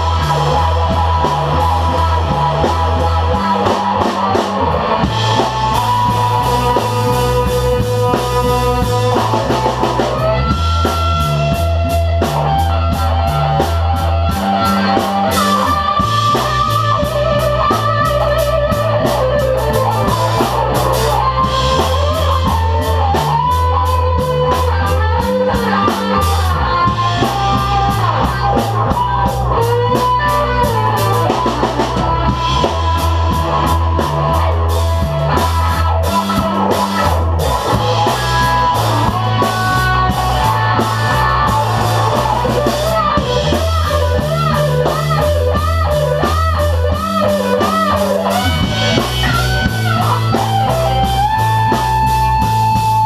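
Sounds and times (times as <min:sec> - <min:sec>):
bass line: 0:00.0 - 0:53.0
drum kit beat: 0:00.0 - 0:53.0
electric guitar sustained lines: 0:00.0 - 0:53.0.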